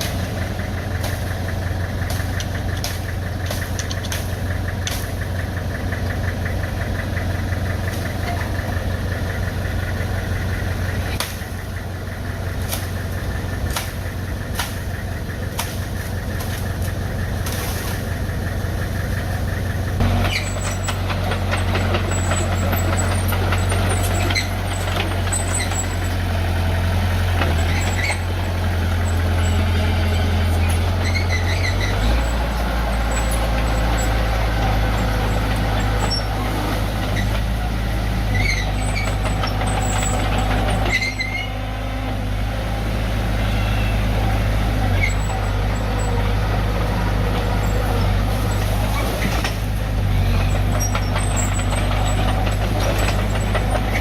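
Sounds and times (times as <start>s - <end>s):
diesel engine of heavy machinery: 0.0s - 54.0s.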